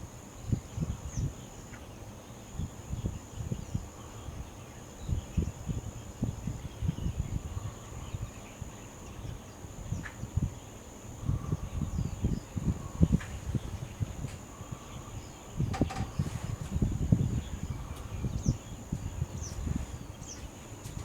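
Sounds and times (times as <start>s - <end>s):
wind rumbling on microphone: 0.0s - 21.0s
faint distant bird chirps: 0.4s - 21.0s.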